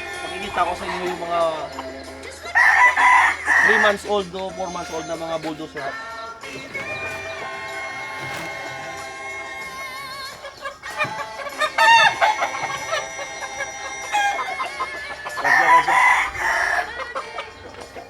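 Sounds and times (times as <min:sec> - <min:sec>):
cockerels crowing: 0:00.0 - 0:18.0
faint background music: 0:00.0 - 0:18.0.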